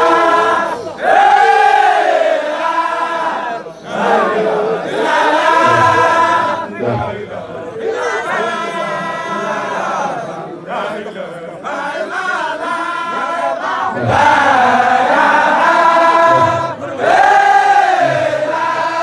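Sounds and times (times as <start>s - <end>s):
men chanting in unison: 0.0s - 10.9s, 11.6s - 19.0s.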